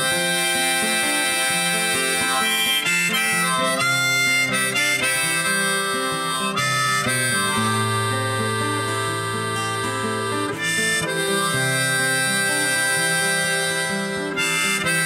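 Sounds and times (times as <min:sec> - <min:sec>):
guitar accompaniment: 0:00.0 - 0:15.0
harmonica melody: 0:00.0 - 0:15.0.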